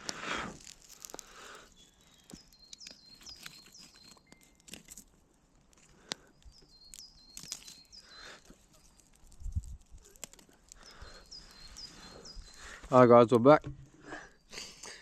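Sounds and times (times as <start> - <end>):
faint sharp clicks and crackles: 0.0 - 12.3
small birds chirping: 0.1 - 15.0.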